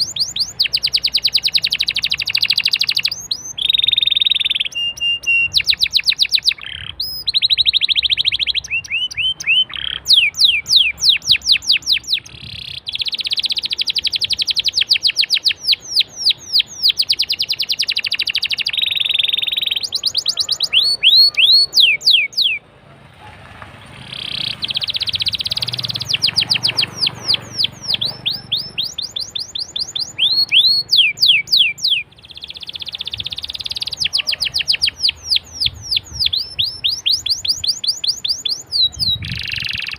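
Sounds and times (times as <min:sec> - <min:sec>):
canary singing trills: 0:00.0 - 0:22.7, 0:23.8 - 0:39.9.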